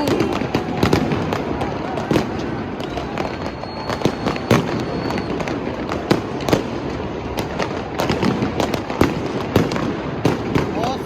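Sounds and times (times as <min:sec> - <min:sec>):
crowd din: 0:00.0 - 0:11.0
fireworks banging: 0:00.0 - 0:11.0.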